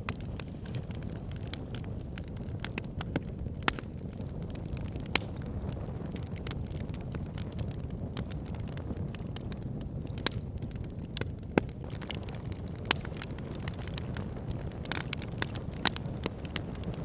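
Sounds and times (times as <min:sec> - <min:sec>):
fire popping: 0:00.0 - 0:17.0
flames rumbling: 0:00.0 - 0:17.0
wood fire crackling: 0:00.0 - 0:17.0.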